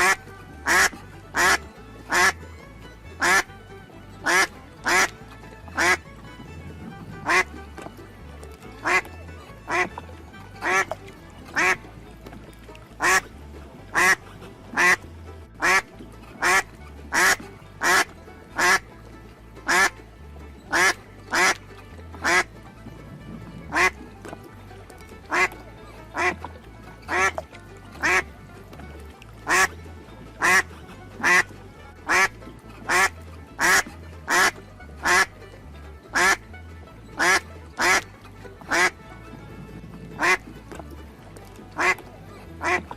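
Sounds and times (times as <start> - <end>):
duck quacking: 0.0 - 2.4, 3.2 - 3.6, 4.2 - 6.2, 6.8 - 19.0, 19.6 - 20.0, 20.6 - 42.9
soft background music: 0.0 - 42.9.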